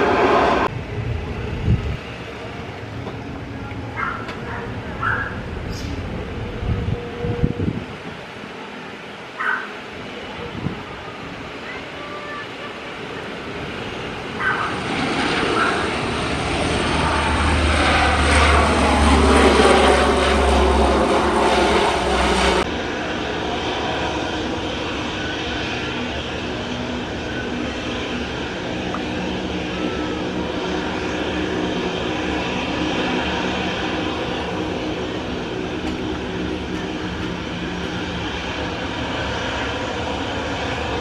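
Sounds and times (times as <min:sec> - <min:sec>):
jet engines humming: 0:00.0 - 0:41.0
propeller plane landing: 0:00.0 - 0:41.0.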